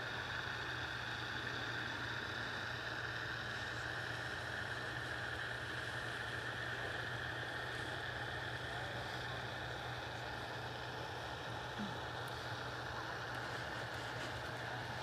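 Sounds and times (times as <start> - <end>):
paramotor engine droning overhead: 0.0 - 15.0.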